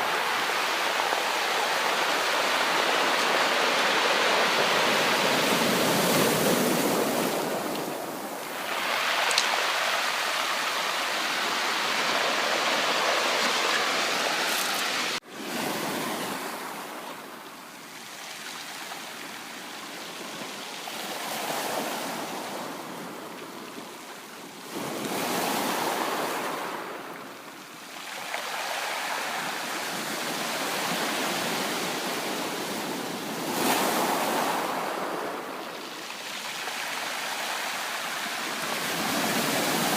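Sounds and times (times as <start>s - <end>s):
sea waves breaking on shore: 0.0s - 17.0s, 24.6s - 39.9s.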